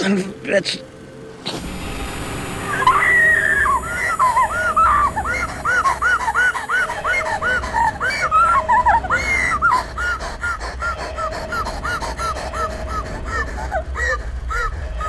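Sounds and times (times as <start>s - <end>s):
steady hum: 0.0s - 15.0s
woman crying hysterically: 2.7s - 15.0s.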